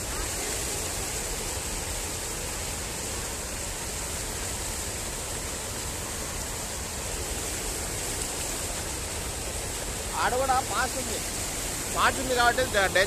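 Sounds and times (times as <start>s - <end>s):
water rushing over a weir: 0.0s - 13.0s.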